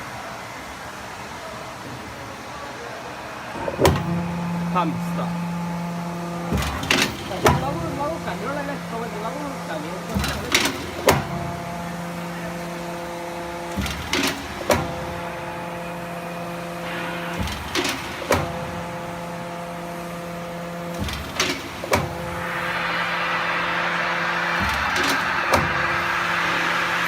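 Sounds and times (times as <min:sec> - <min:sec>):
hydraulic pump hum: 0:03.2 - 0:27.0.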